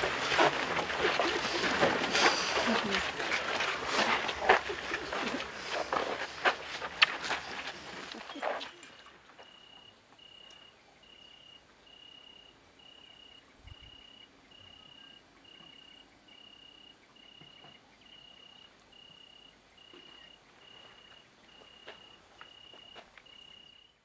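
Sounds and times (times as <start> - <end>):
crickets chirring: 0.0 - 24.0
repeating cricket chirp: 0.0 - 24.0.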